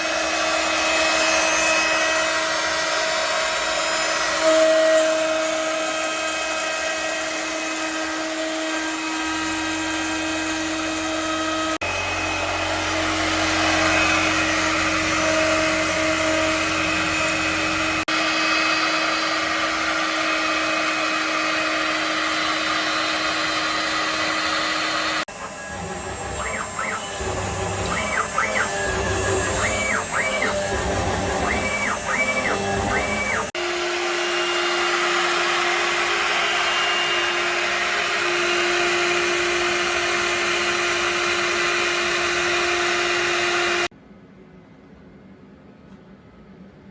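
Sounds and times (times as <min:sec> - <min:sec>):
cutter grinding metal: 0:00.0 - 0:43.9
high spindle whine: 0:00.0 - 0:43.9.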